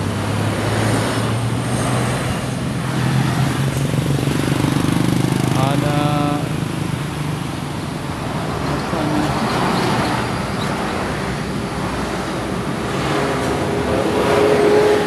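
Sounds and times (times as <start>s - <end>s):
passing vehicles engine and tyre noise: 0.0s - 15.0s.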